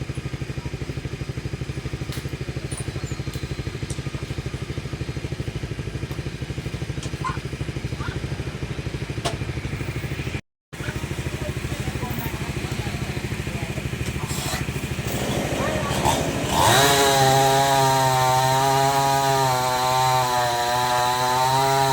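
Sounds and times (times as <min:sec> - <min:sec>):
chainsaw engine running: 0:00.0 - 0:21.9.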